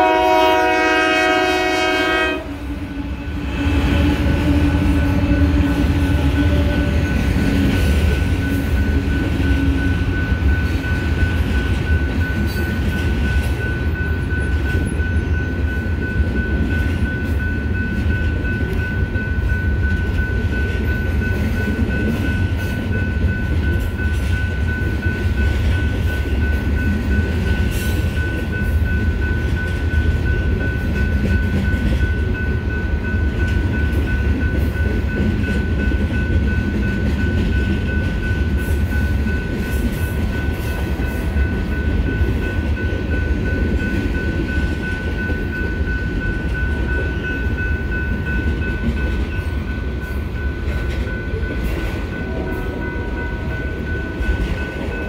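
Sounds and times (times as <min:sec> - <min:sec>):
freight cars rumbling on rails: 0:00.0 - 0:55.0
high-pitched ringing tone: 0:04.3 - 0:55.0.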